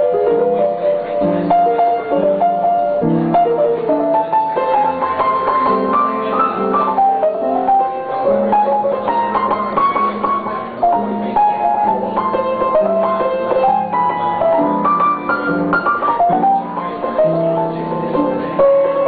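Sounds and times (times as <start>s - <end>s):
solo piano playing: 0.0s - 19.0s.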